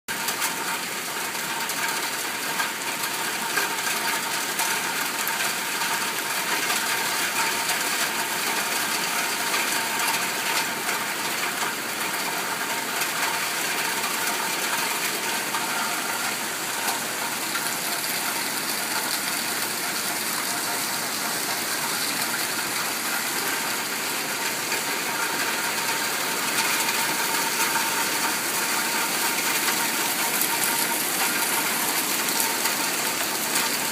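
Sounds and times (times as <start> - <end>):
heavy rain on a lake: 0.1 - 33.9.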